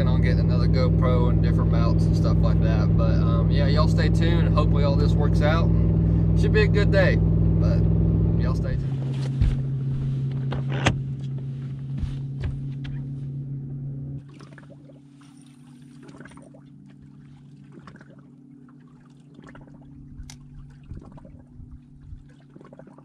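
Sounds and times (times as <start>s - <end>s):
boat motor humming: 0.0s - 23.0s
water lapping against hull: 0.0s - 23.0s.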